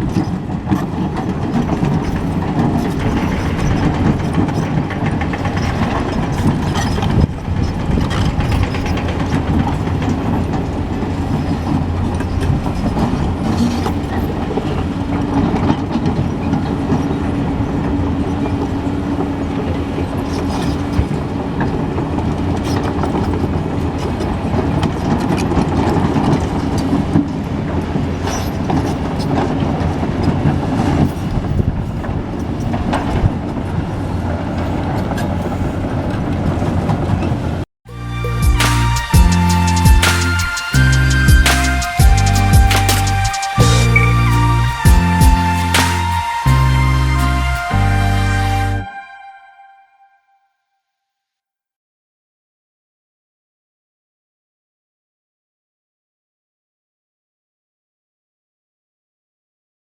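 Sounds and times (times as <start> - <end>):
excavator diesel engine: 0.0 - 49.6.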